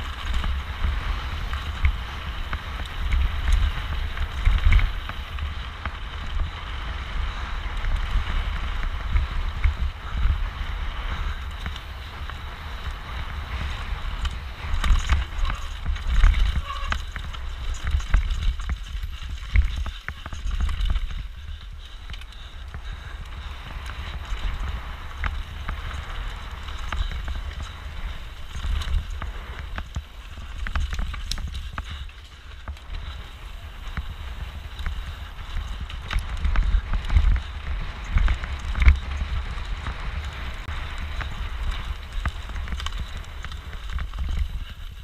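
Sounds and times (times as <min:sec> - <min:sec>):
bike rattling with sharp knocks: 0:00.0 - 0:45.0
tyre noise on trail: 0:00.0 - 0:45.0
wind rumbling on microphone: 0:00.0 - 0:45.0.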